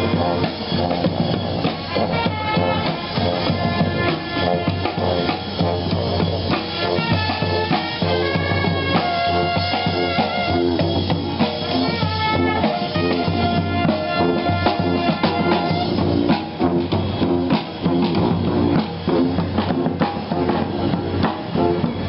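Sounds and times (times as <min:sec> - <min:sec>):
brass horns: 0:00.0 - 0:22.0
snare drum: 0:00.0 - 0:22.0.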